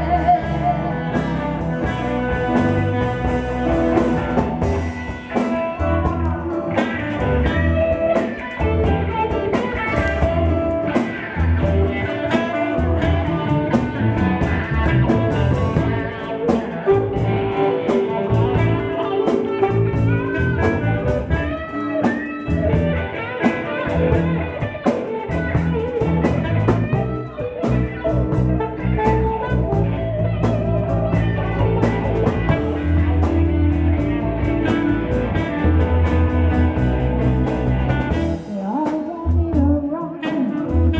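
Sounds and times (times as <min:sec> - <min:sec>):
steady drum beat: 0:00.0 - 0:39.9
bass: 0:00.0 - 0:40.9
guitar with bent notes: 0:00.0 - 0:40.9.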